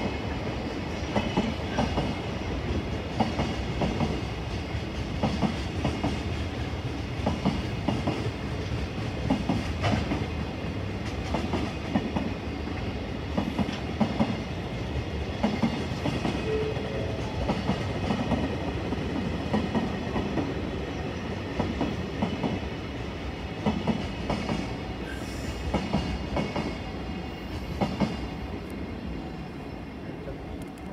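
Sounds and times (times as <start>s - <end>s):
freight train rumbling past: 0.0s - 30.9s.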